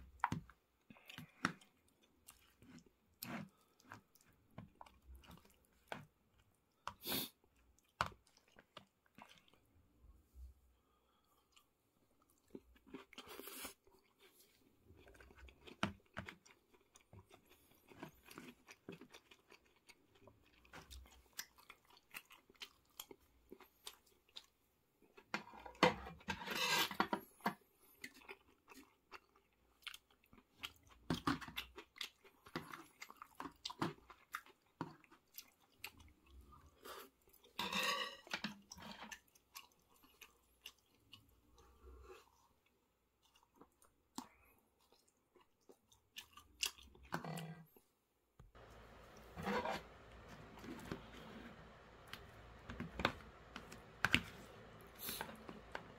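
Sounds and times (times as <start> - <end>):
person chewing food: 0.0 - 9.8, 10.9 - 25.8, 27.2 - 55.9.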